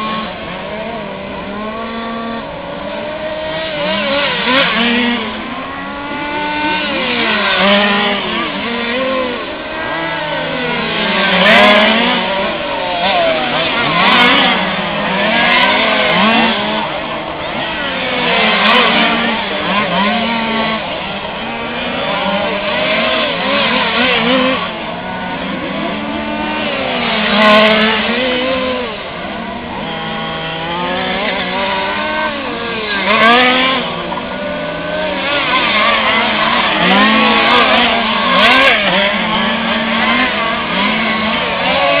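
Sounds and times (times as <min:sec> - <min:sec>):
cars passing loudly: 0:00.0 - 0:42.0
small two-stroke engines racing: 0:00.0 - 0:42.0.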